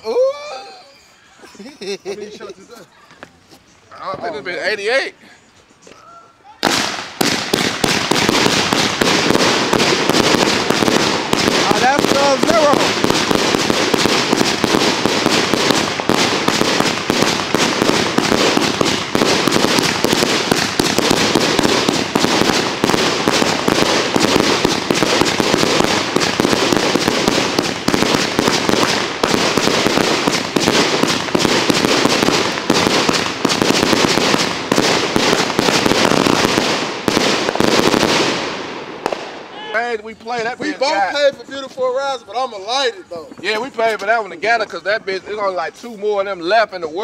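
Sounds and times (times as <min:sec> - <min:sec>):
fireworks crackling and popping: 0:00.0 - 0:47.0.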